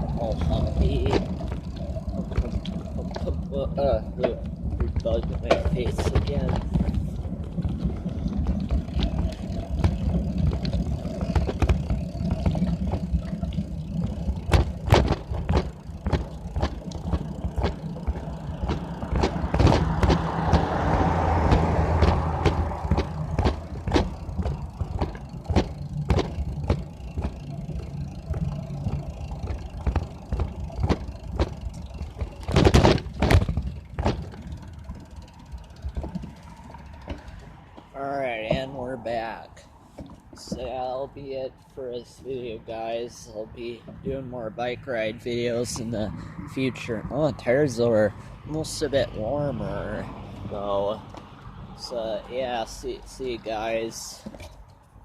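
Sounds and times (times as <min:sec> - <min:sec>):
bicycle rattles and knocks: 0:00.0 - 0:55.0
bicycle riding rumble: 0:00.0 - 0:55.0.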